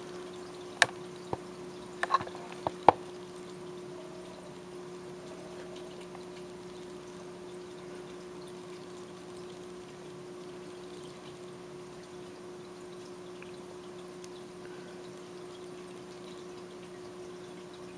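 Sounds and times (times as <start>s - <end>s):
aquarium water bubbling: 0.0s - 17.9s.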